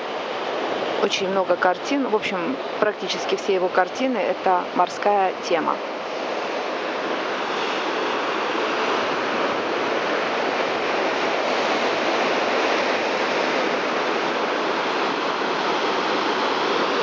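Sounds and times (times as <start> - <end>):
waves on rocky shore: 0.0 - 17.0.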